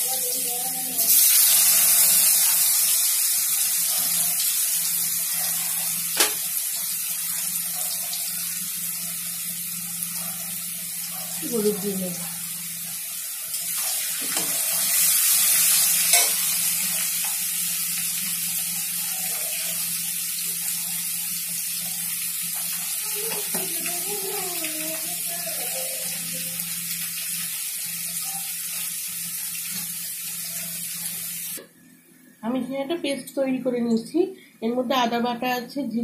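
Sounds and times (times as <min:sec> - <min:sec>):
potatoes sizzling in oil: 0:00.0 - 0:31.6.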